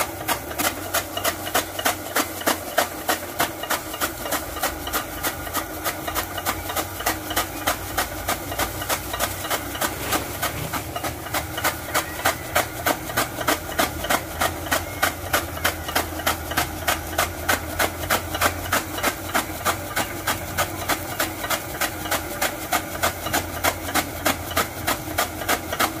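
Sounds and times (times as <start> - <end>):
engine low hum: 0.0 - 26.0
blades chopping straw: 0.1 - 26.0.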